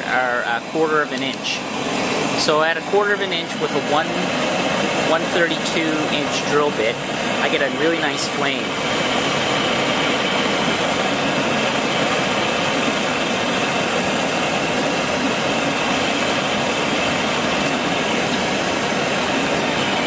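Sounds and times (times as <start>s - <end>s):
gas burner rushing: 0.0s - 20.0s.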